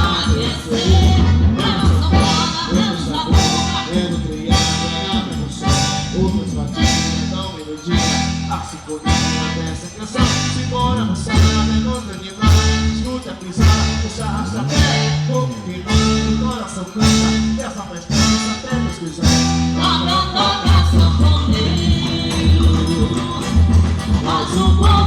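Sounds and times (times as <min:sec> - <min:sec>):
band playing music with singing: 0:00.0 - 0:25.0.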